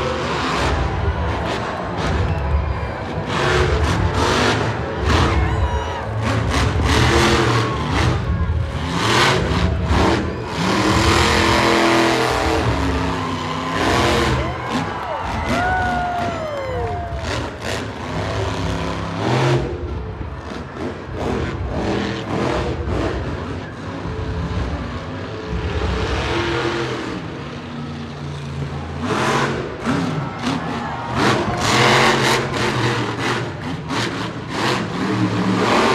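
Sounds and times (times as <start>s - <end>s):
truck engine revving: 0.0s - 35.9s.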